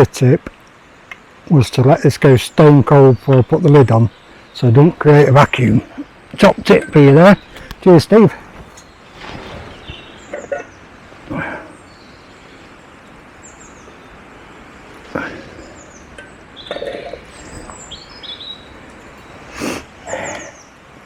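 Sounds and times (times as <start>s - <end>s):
low steady background noise: 0.0s - 21.0s
small birds chirping: 0.0s - 21.0s.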